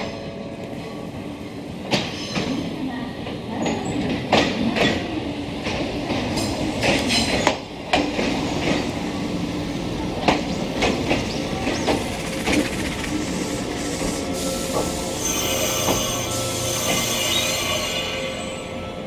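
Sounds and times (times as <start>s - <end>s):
electric train running rumble: 0.0s - 19.0s.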